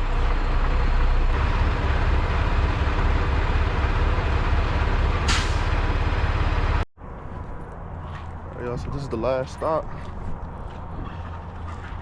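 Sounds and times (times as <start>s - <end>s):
truck diesel engine and road noise: 0.0s - 12.0s.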